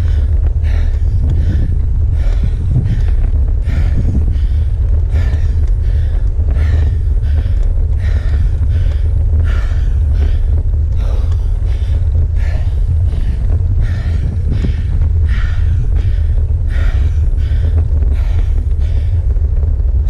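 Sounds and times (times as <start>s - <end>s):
low rumble: 0.0s - 20.0s
person panting heavily: 0.0s - 20.0s.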